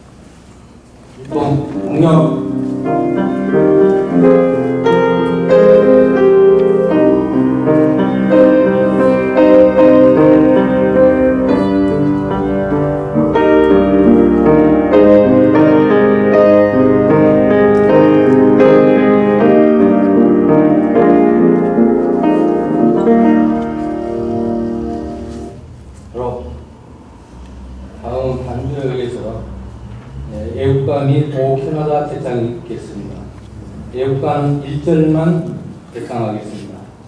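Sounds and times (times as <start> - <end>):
solemn piano music: 1.2 - 25.8, 27.9 - 36.6.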